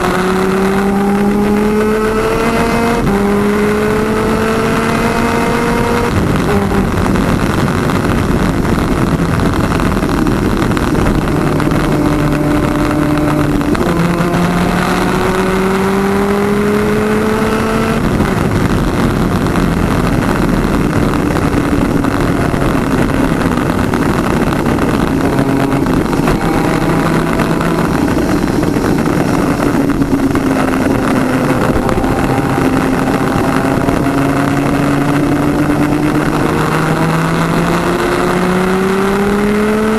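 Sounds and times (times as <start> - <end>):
dense rush of noise: 0.0 - 39.9
two-stroke kart engine racing: 0.0 - 39.9.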